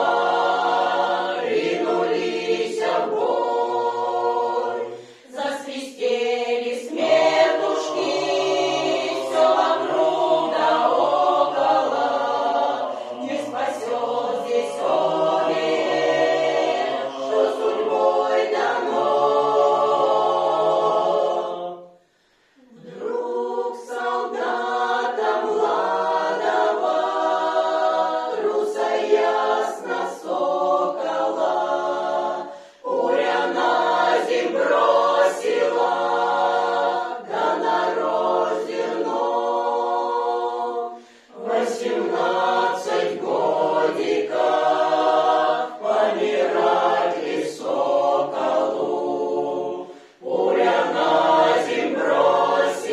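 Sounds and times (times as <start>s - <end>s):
choir singing a cappella: 0.0s - 52.9s.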